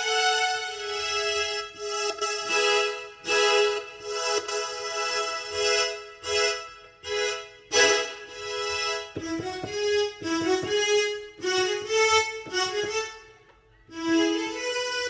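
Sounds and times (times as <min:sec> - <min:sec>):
keyboard string voice melody: 0:00.0 - 0:15.0.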